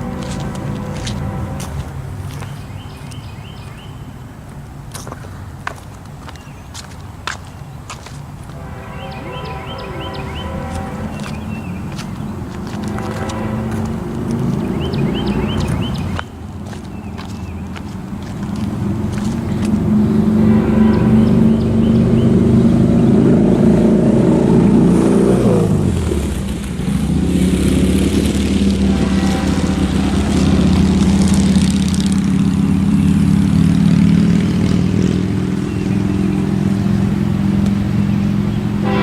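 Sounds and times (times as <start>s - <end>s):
diesel locomotive drone: 0.0s - 39.0s.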